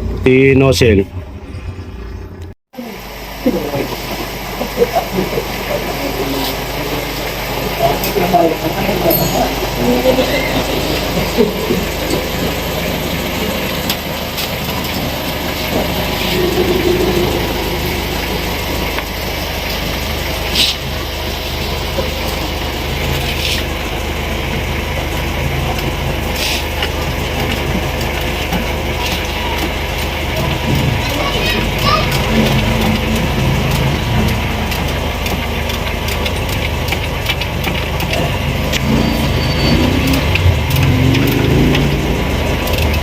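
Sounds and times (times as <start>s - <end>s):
workshop noise: 0.0s - 43.0s.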